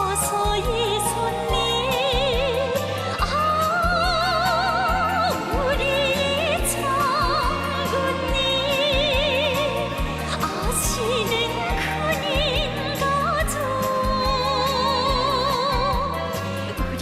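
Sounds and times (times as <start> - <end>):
pop music with vibrato melody: 0.0 - 17.0.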